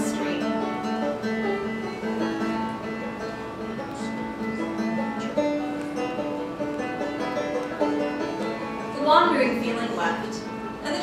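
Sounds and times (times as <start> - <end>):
banjo picked melody: 0.0 - 11.0.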